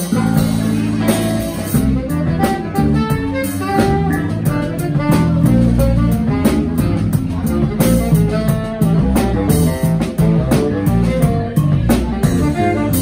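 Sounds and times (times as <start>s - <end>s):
drum kit with cymbals: 0.0s - 13.0s
electric bass line: 0.0s - 13.0s
saxophone melody: 0.0s - 13.0s.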